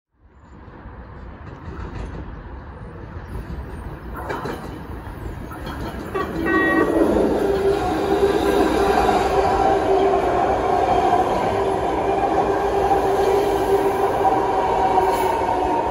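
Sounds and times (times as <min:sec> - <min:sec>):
train running on rails: 0:00.1 - 0:15.9.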